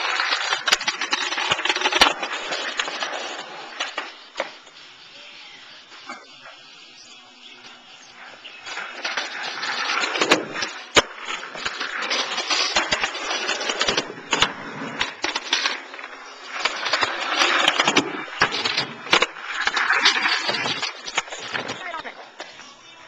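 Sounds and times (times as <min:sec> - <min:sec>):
skateboard clacking: 0:00.0 - 0:04.9, 0:07.6 - 0:22.7
skateboard wheels rolling on concrete: 0:00.0 - 0:23.0.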